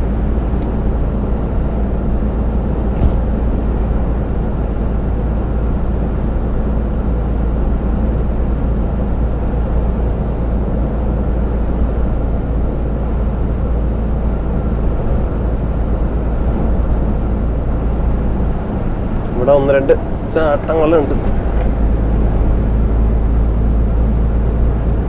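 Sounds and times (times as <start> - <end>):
lorry engine drone: 0.0 - 25.0
road rumble: 0.0 - 25.0.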